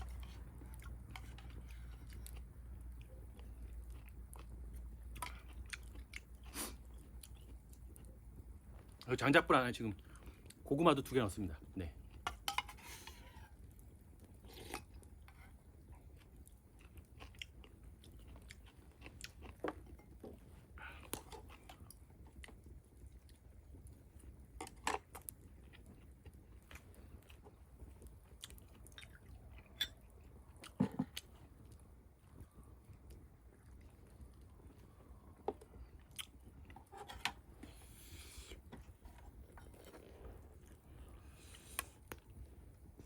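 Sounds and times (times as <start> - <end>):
person chewing food: 0.0 - 9.1, 12.0 - 43.0.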